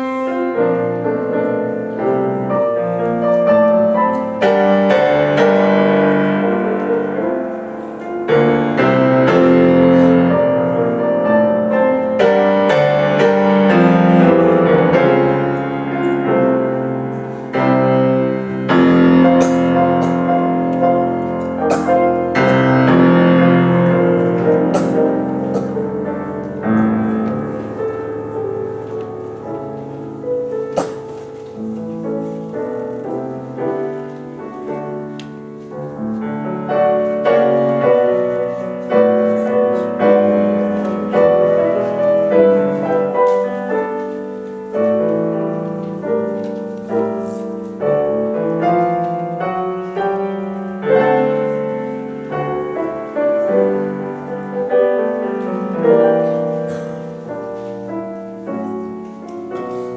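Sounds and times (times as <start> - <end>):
piano playing hymn: 0.0 - 59.9.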